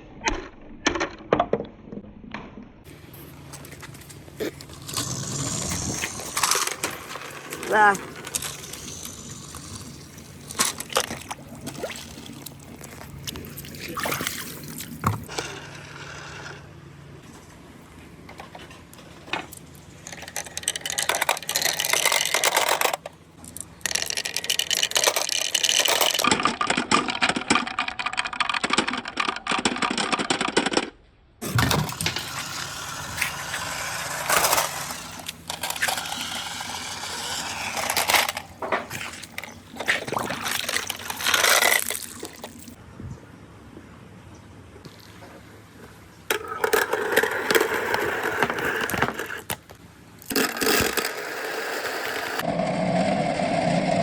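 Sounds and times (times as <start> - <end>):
marbles rolling and clicking: 0.3 - 17.5, 18.3 - 42.8, 46.3 - 52.6.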